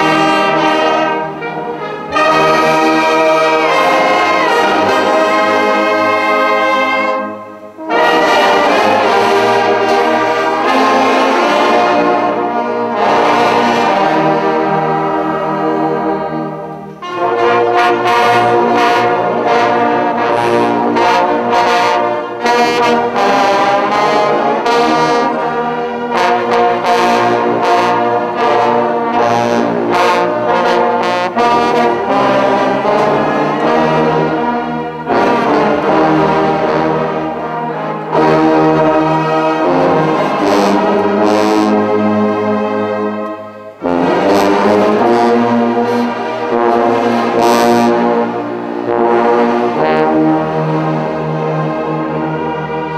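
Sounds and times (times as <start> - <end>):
brass band playing chords: 0.0 - 52.9.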